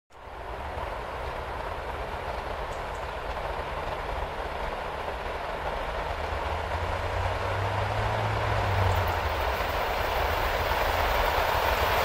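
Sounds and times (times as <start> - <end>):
train rumbling: 0.1 - 12.0.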